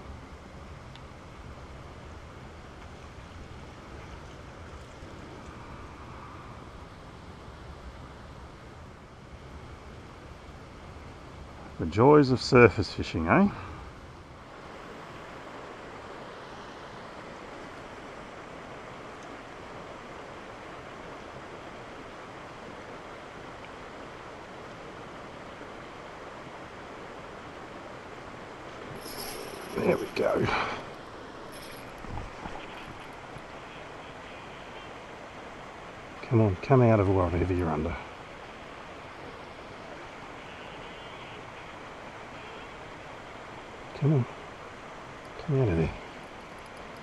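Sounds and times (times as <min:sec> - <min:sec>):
flowing water rushing: 0:00.0 - 0:47.0.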